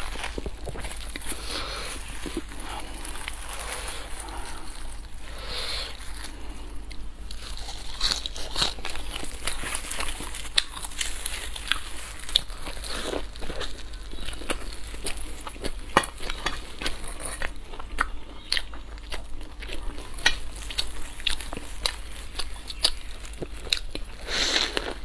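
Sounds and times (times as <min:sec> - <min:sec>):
plastic gloves crinkling: 0:00.0 - 0:17.9, 0:18.8 - 0:25.0
crunchy bites and chewing: 0:00.0 - 0:25.0.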